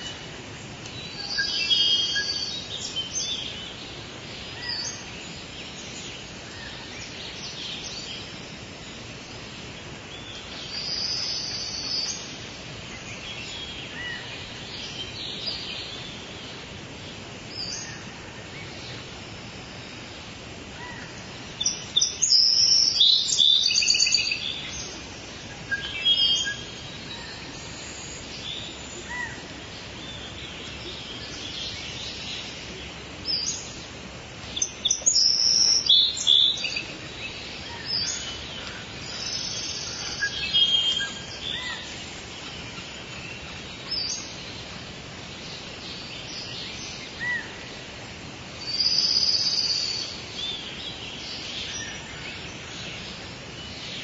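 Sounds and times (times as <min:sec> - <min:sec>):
birds chirping: 0:00.0 - 0:54.0
steady background hiss: 0:00.0 - 0:54.0.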